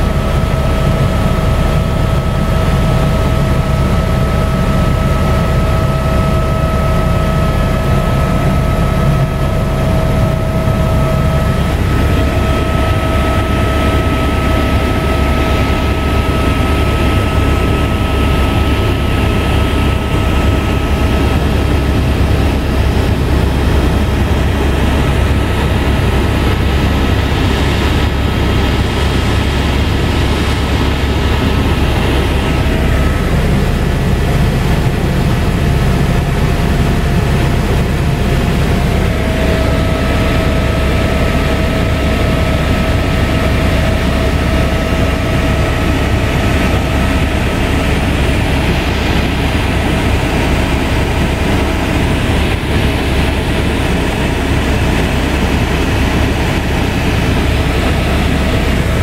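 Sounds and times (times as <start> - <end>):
helicopter engine and rotor drone: 0.0 - 59.0
high whine: 0.0 - 59.0.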